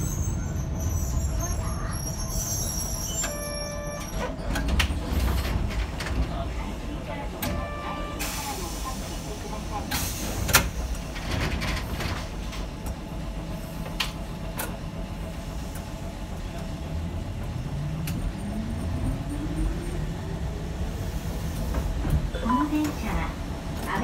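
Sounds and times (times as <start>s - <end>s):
tram low rumble: 0.0s - 24.0s.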